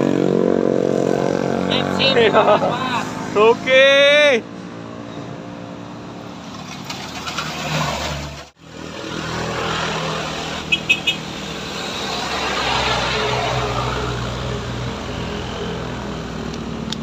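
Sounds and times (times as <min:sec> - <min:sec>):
scooter engines labouring: 0:00.0 - 0:17.0.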